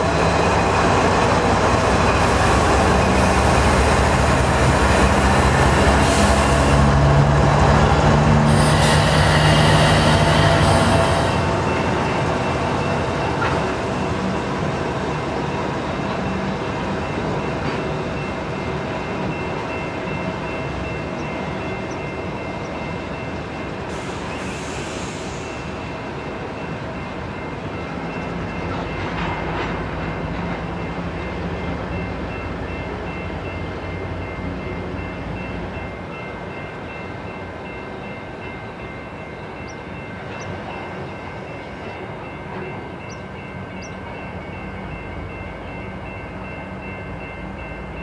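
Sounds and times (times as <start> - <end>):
diesel locomotive engine rumble: 0.0 - 48.0
wheels on rail: 0.0 - 48.0.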